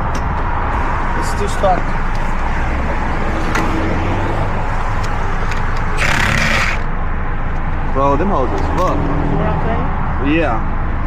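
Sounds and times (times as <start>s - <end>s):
road traffic rumbling: 0.0s - 11.0s.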